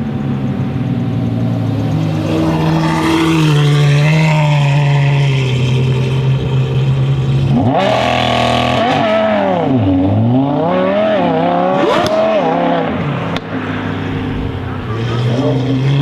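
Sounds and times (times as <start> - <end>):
exhaust crack: 0.0 - 16.0
sports car engine revving: 0.0 - 16.0.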